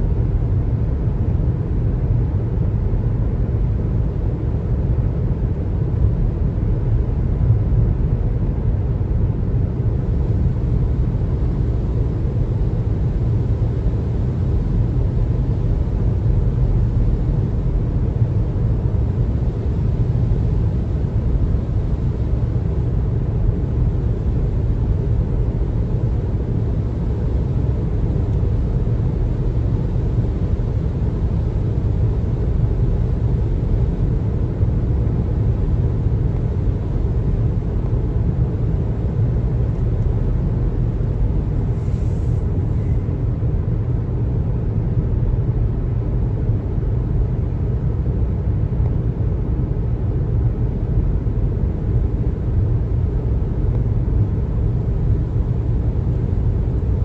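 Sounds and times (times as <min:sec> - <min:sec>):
car road and tyre rumble: 0:05.9 - 0:57.0.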